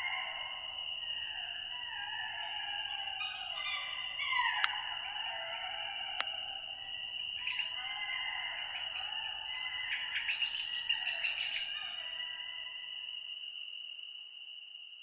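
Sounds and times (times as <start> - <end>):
jackals howling in chorus: 0.0 - 13.2.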